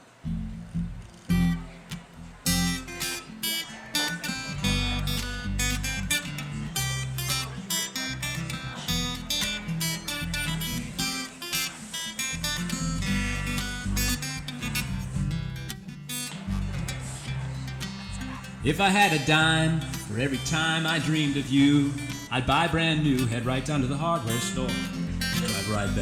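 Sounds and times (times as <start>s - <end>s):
acoustic guitar strumming: 0.2s - 26.0s.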